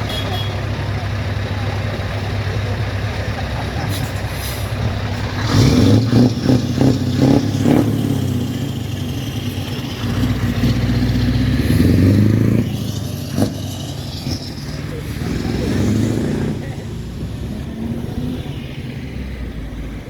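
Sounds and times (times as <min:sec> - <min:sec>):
vehicle engines running: 0:00.0 - 0:20.0.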